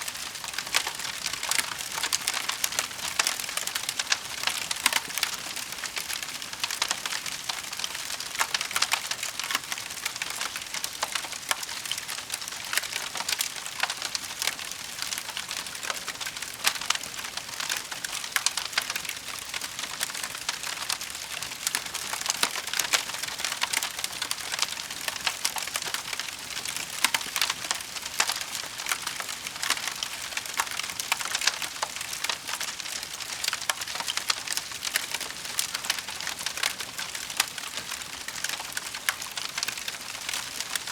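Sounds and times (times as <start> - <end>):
firewood crackling in fireplace: 0.0 - 40.9.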